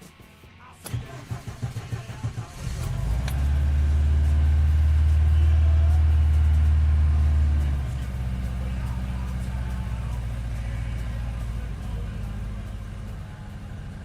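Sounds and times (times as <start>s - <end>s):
car engine cranking: 0.8s - 14.0s
car engine idling: 0.8s - 14.0s.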